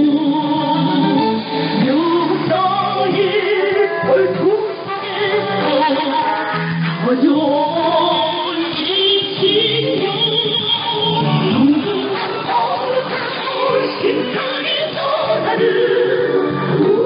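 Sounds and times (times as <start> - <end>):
song on shortwave radio: 0.0 - 17.0.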